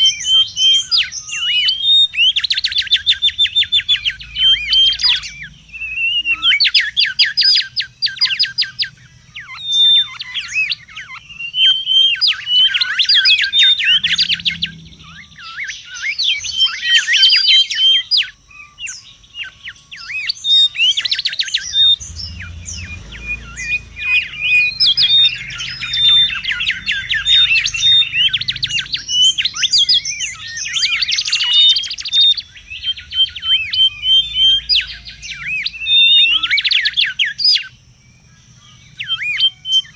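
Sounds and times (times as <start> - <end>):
bird whistling: 0.0 - 39.9.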